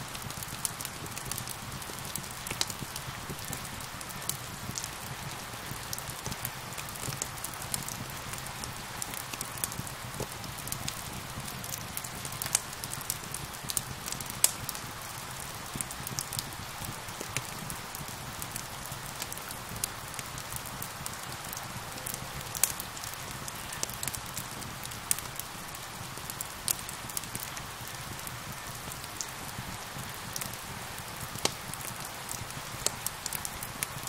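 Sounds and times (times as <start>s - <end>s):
steady rain hissing: 0.0s - 34.0s
wood fire crackling and popping: 0.1s - 34.0s.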